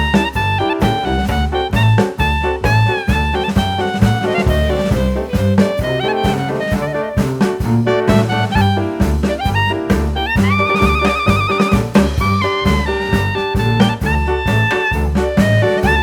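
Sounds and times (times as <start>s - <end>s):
bass line: 0.0s - 16.0s
drum kit: 0.0s - 16.0s
jazz horn melody: 0.0s - 16.0s.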